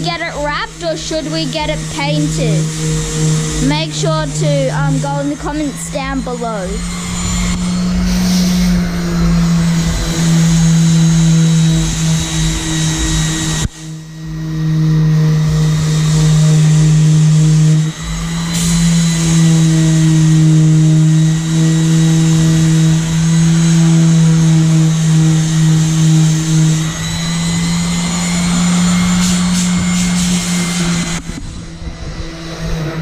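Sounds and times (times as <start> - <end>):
electric disc sander humming: 0.0 - 33.0.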